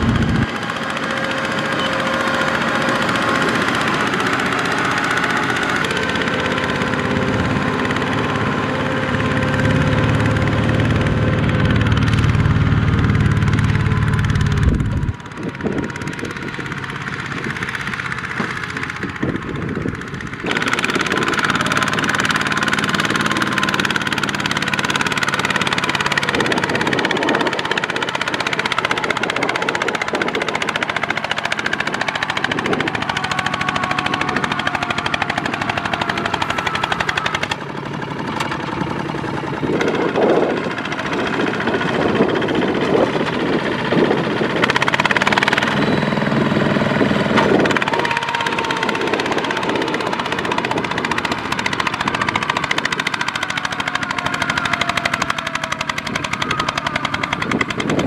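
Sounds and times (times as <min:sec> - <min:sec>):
diesel tractor engine chugging: 0:00.0 - 0:58.0
heavier tractor engine rumbling: 0:00.0 - 0:58.0.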